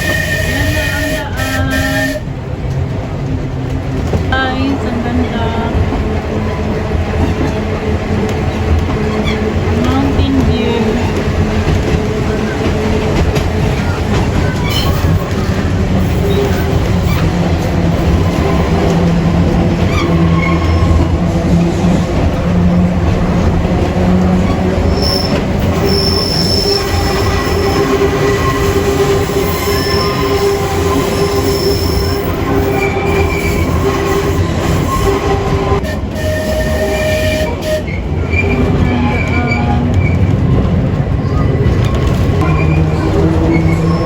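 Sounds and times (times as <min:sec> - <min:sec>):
tram wheels squealing: 0:00.0 - 0:02.4, 0:04.4 - 0:44.0
tram rumbling on rails: 0:00.0 - 0:44.0.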